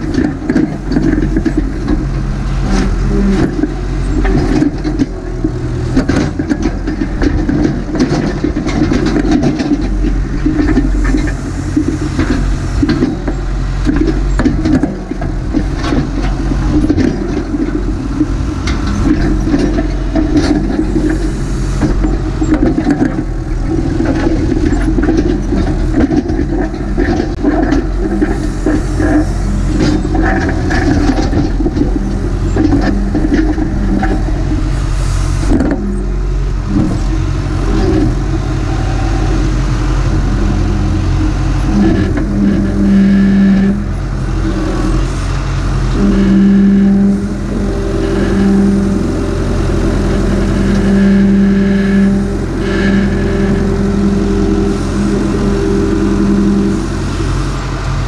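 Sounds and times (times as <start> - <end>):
backhoe diesel engine working: 0.0 - 58.0.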